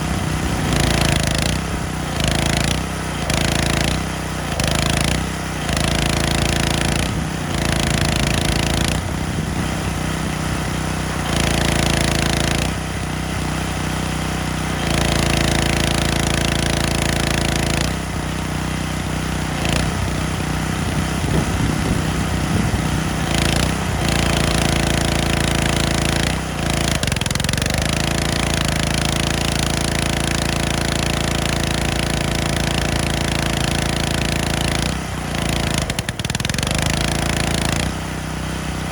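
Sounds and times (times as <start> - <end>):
pressure washer engine: 0.0 - 38.9.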